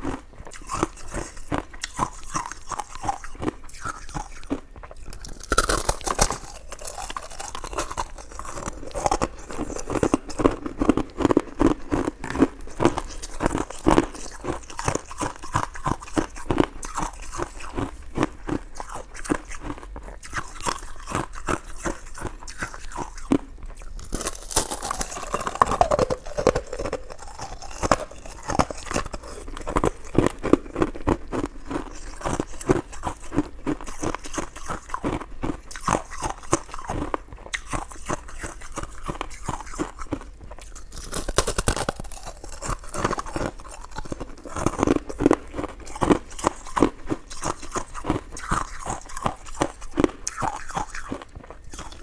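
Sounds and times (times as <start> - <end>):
sticky chewing mouth clicks: 0.0 - 52.0.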